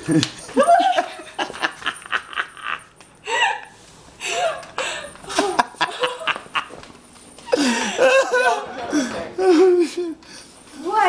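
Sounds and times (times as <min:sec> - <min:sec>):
people laughing: 0:00.4 - 0:06.8, 0:07.5 - 0:10.2.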